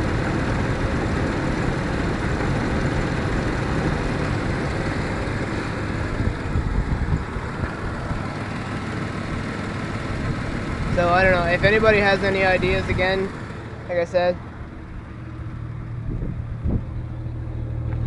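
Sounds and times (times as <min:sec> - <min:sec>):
car engine idling unevenly: 0:00.0 - 0:18.0.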